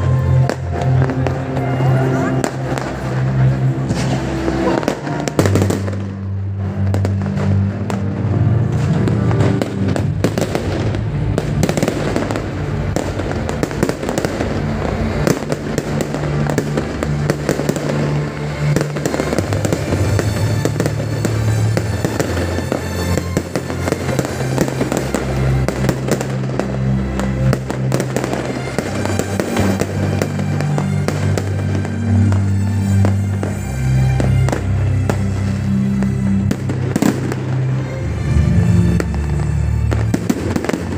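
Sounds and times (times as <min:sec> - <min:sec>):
fireworks bangs and crackling: 0:00.0 - 0:40.9
music playing: 0:00.0 - 0:40.9.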